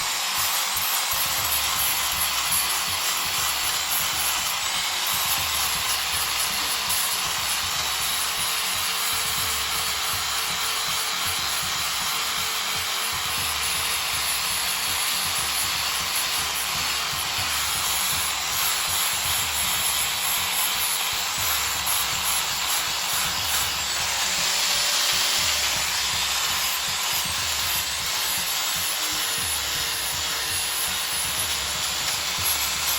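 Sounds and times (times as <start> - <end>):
power sander on wood: 0.0 - 32.9.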